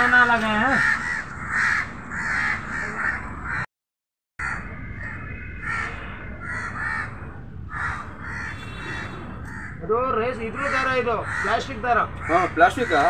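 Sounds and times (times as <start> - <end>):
crows cawing: 0.1 - 3.7, 4.4 - 13.0.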